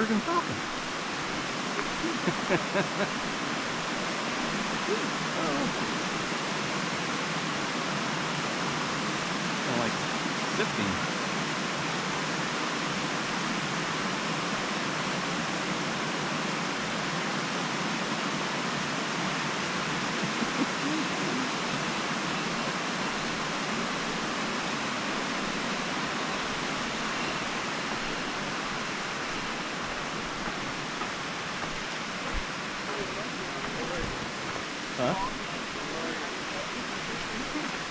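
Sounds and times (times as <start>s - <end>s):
water rushing over rocks: 0.0s - 37.9s.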